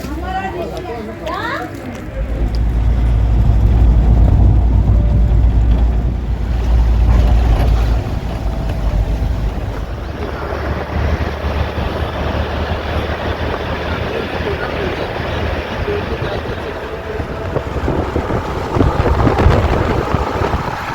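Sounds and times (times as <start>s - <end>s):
vehicle rumble: 0.0s - 20.9s
wind buffeting microphone: 0.2s - 20.9s.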